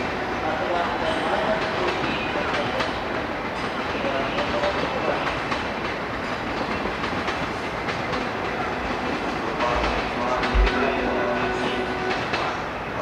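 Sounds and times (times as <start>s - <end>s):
train coaches rumbling past: 0.0s - 13.0s.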